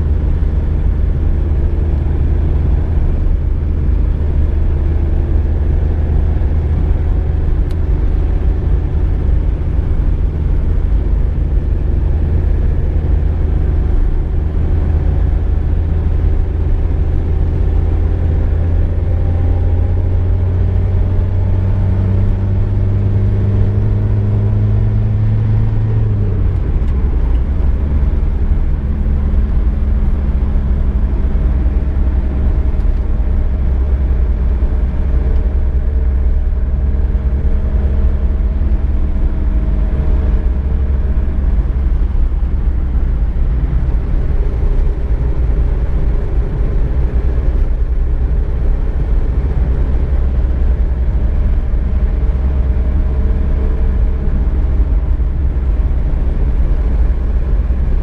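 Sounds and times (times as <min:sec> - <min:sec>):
car engine hum while driving: 0:00.0 - 0:58.0.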